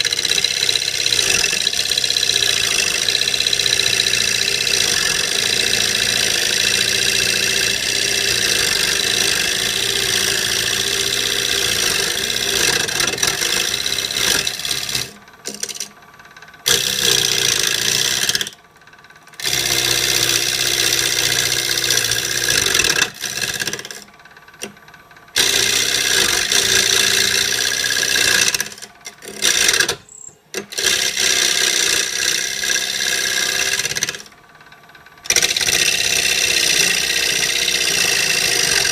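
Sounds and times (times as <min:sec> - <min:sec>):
turning tool scraping wood: 0:00.0 - 0:16.0, 0:16.6 - 0:18.6, 0:19.4 - 0:24.8, 0:25.4 - 0:34.3, 0:35.3 - 0:38.9
wood lathe motor hum: 0:00.0 - 0:38.9.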